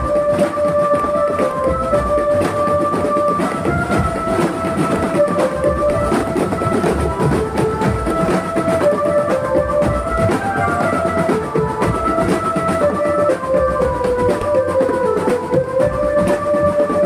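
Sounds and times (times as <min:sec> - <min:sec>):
held melody line: 0:00.0 - 0:17.0
marching drums: 0:00.0 - 0:17.0.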